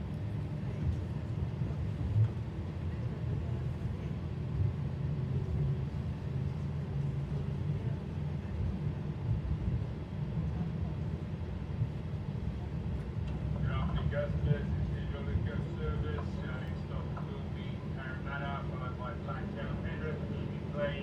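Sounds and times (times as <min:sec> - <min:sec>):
electric train rumble inside carriage: 0:00.0 - 0:21.0.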